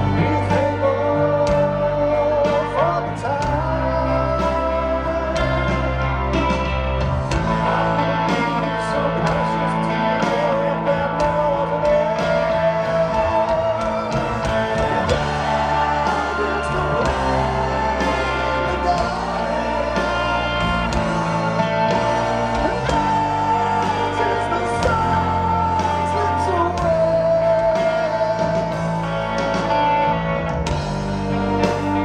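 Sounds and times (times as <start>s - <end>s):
person singing: 0.0s - 30.3s
bass line: 0.0s - 32.0s
guitar chords: 0.0s - 32.0s.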